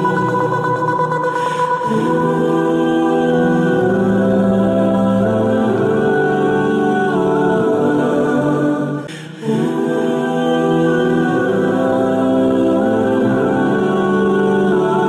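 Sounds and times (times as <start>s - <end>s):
choir-like voices music: 0.0s - 15.0s.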